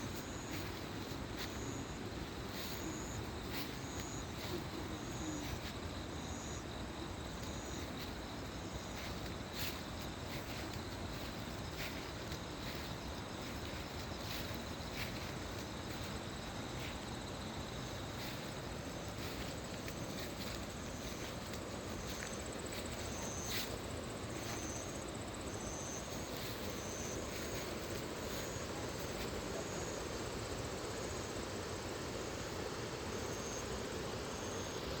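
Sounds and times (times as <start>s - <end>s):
insect chirping: 0.0s - 35.0s.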